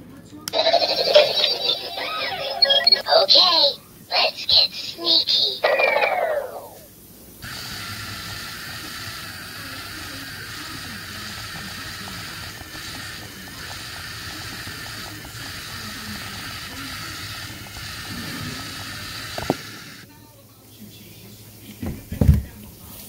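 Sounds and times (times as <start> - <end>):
toy robot motors running: 0.5 - 6.8, 7.4 - 20.0.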